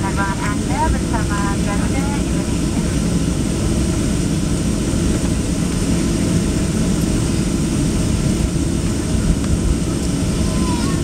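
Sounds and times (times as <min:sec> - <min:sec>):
jet engines at low power: 0:00.0 - 0:11.0
wheels rumbling on runway: 0:00.0 - 0:11.0.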